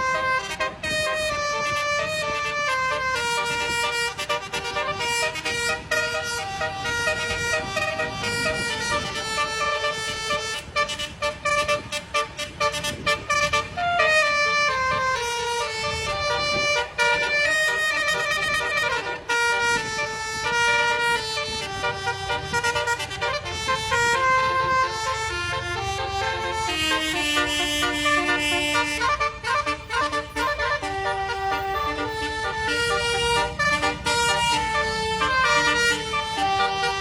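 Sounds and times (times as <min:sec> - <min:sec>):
multi-tone horn playing a tune: 0:00.0 - 0:37.0.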